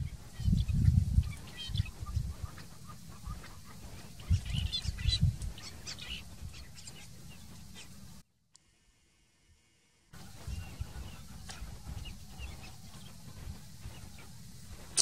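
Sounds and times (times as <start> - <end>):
birds chirping: 0.0 - 8.2, 10.2 - 15.0.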